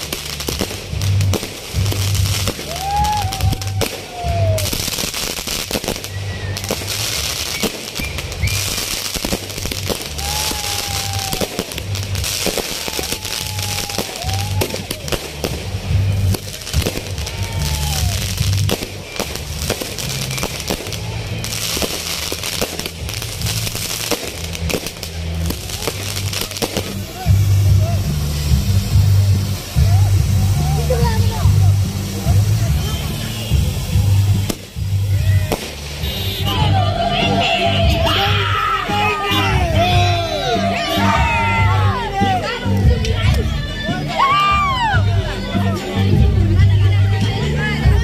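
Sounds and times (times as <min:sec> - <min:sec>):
fireworks crackling: 0:00.0 - 0:48.0
music with low beat: 0:00.0 - 0:48.0.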